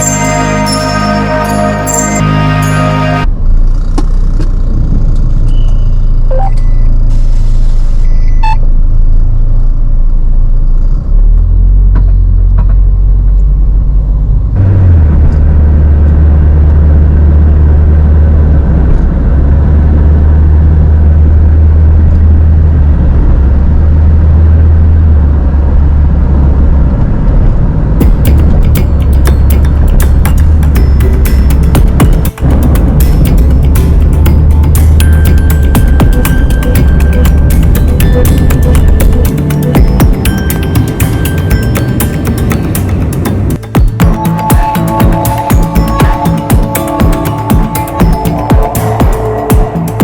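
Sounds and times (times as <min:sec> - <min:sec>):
car driving on highway: 0:03.2 - 0:48.8.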